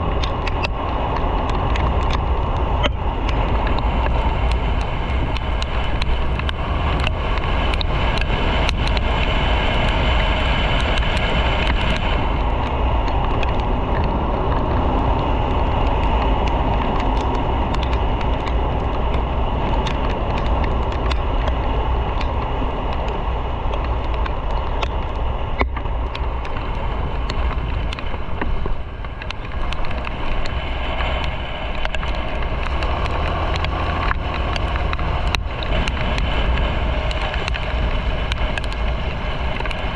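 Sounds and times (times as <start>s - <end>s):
motorcycle engine rumble: 0.0s - 39.9s
wind and road noise: 0.0s - 39.9s.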